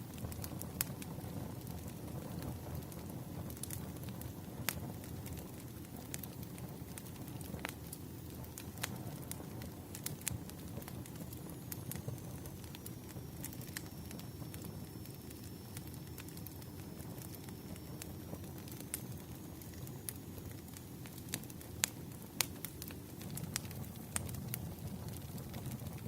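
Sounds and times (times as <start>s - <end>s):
fire rumbling: 0.0s - 26.0s
logs crackling and popping: 0.0s - 26.0s.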